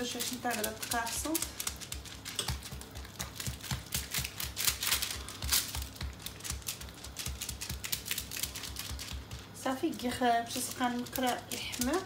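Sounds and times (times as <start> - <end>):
hand patting dough: 0.0 - 12.0.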